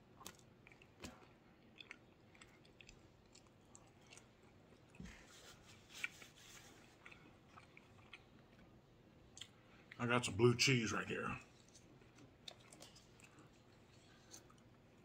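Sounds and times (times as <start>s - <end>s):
close-up chewing: 0.0s - 10.0s, 11.4s - 15.0s.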